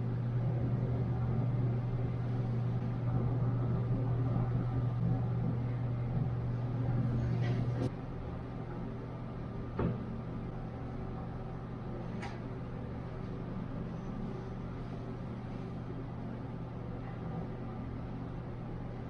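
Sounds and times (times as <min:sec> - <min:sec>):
workshop machine humming: 0:00.0 - 0:19.0.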